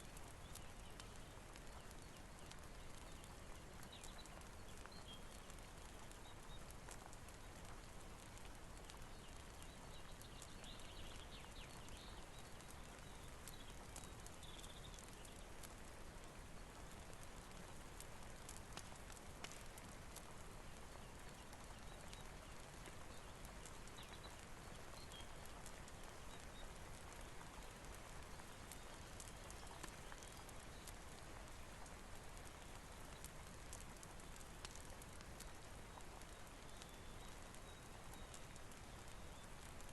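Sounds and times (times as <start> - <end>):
crackling fire: 0.0 - 39.9
soft rain hiss: 0.0 - 39.9.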